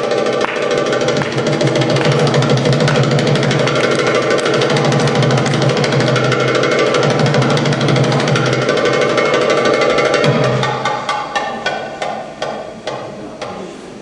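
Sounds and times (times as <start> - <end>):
belly dance music with drums: 0.0 - 13.2
drum strikes: 0.0 - 13.7.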